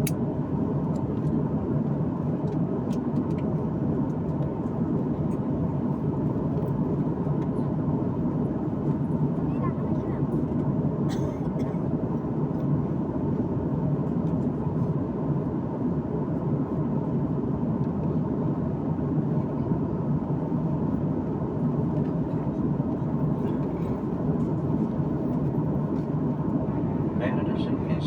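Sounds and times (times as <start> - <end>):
airliner cabin noise: 0.0 - 28.0.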